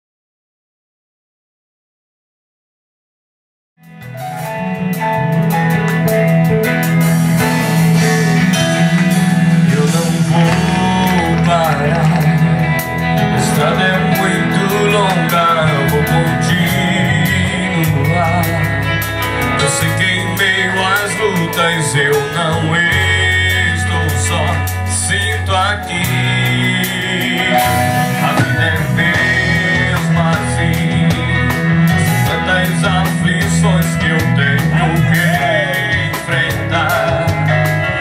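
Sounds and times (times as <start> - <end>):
guitar: 3.8 - 38.0
low bass notes: 3.8 - 38.0
person singing: 7.3 - 38.0.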